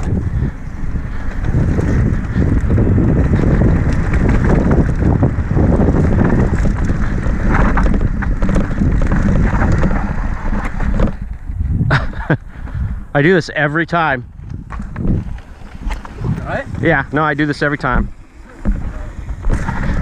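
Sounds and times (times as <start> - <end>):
bike rattles and clicks: 0.0 - 20.0
bike tyres rumbling on dirt: 0.0 - 20.0
wind blasting across microphone: 0.0 - 20.0.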